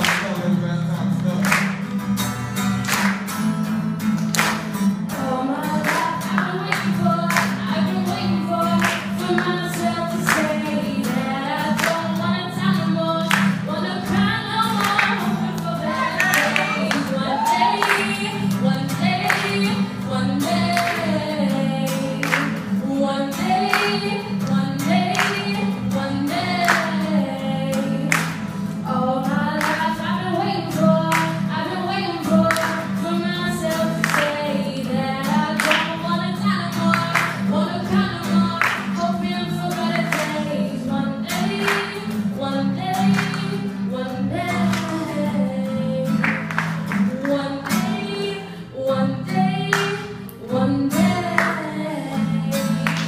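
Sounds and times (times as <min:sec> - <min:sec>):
acoustic guitar: 0:00.0 - 0:53.0
woman singing slow melody: 0:05.1 - 0:53.0.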